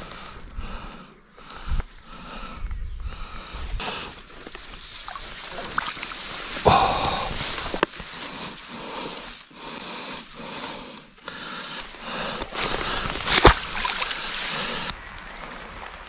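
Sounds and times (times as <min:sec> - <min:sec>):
grass rustling against microphone: 0:00.0 - 0:16.0.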